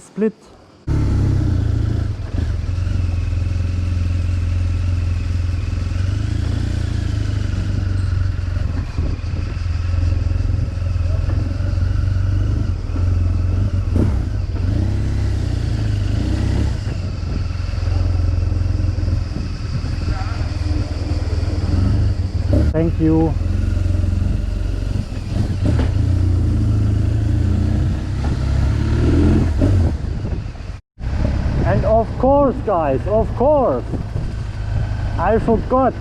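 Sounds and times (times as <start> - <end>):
motorcycle engine running: 0.9 - 36.0.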